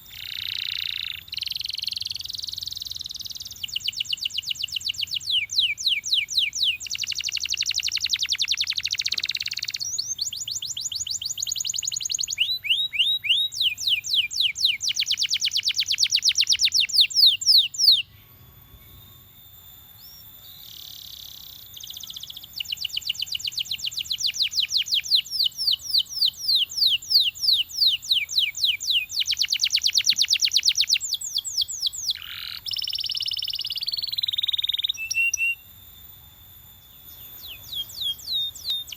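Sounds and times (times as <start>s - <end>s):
canary singing in rapid trills: 0.0s - 18.3s, 19.9s - 35.6s, 36.8s - 38.9s.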